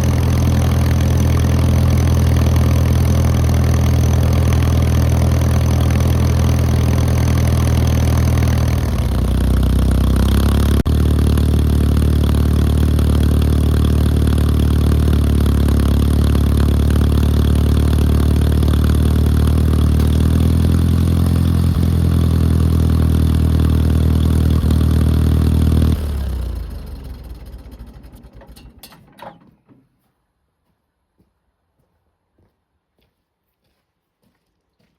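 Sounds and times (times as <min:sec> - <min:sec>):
tractor engine running: 0:00.0 - 0:29.8.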